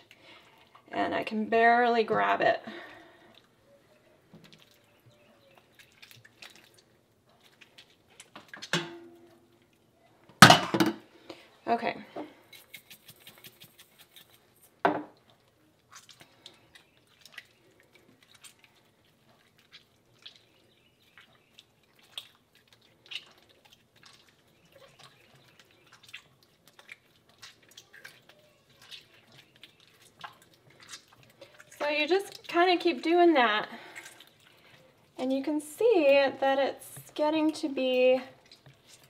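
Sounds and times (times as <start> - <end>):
wet squelches of cheese: 0.0 - 10.3, 11.1 - 39.0
liquid dripping into pot: 4.3 - 11.4, 12.5 - 39.0.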